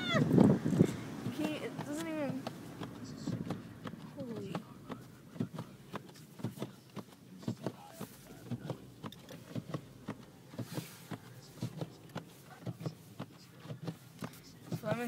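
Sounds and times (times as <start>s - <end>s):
low engine hum: 0.0s - 15.0s
tyres crunching through snow: 0.0s - 15.0s.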